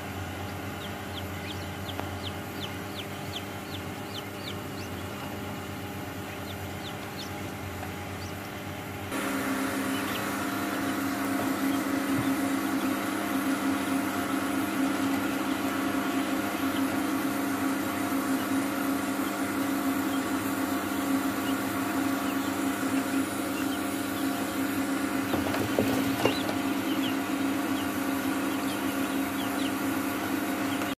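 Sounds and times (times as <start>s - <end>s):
chicks peeping: 0.0s - 31.0s
small motor humming: 0.0s - 31.0s.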